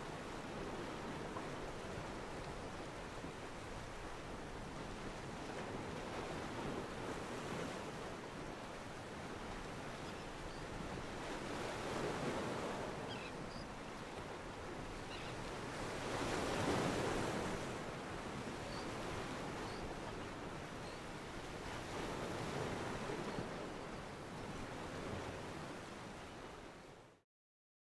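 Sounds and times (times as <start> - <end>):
wind: 0.0 - 27.2.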